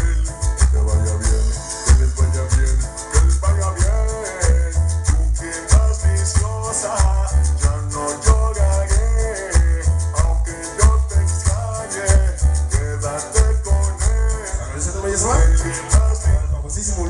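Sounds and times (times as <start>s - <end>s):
shaker keeping time: 0.0s - 14.6s, 15.2s - 16.4s
heavy bass beat: 0.0s - 16.9s.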